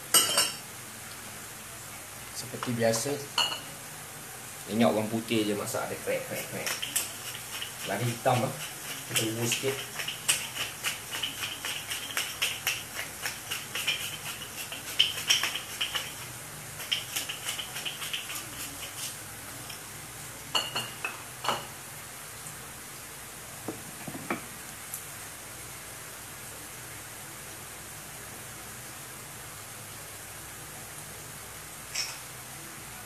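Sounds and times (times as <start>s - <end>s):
onions sizzling in a pan: 0.0s - 33.0s.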